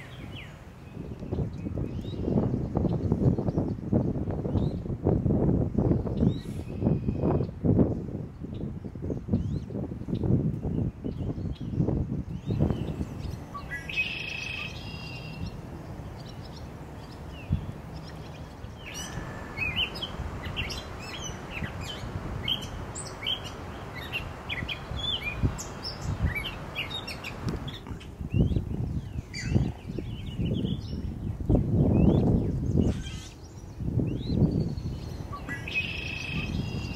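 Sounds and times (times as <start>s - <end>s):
birds chirping: 0.0s - 4.9s, 5.8s - 36.9s
steady outdoor hiss: 0.0s - 36.9s.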